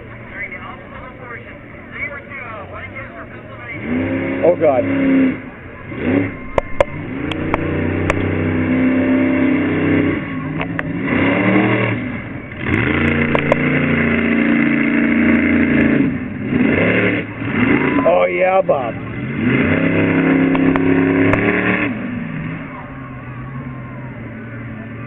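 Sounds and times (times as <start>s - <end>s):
monster truck engine revving: 0.0s - 25.0s.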